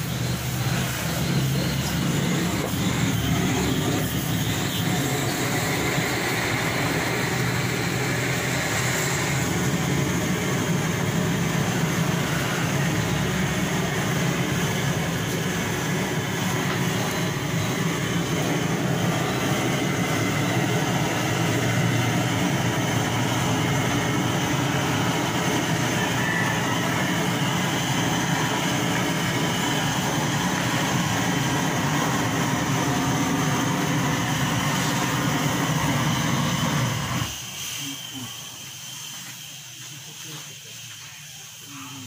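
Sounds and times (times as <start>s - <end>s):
blowtorch burner roaring: 0.0s - 42.0s.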